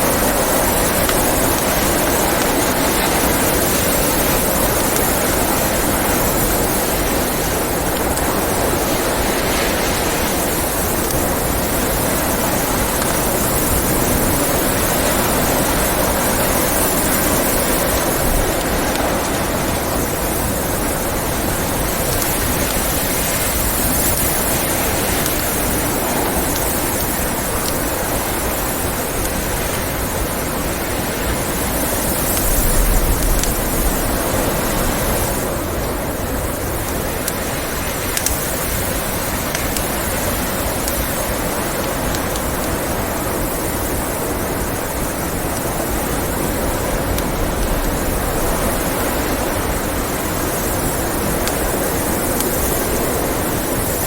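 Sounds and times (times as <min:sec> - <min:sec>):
blizzard wind gusting: 0:00.0 - 0:54.0
wood fire crackling: 0:00.0 - 0:54.0.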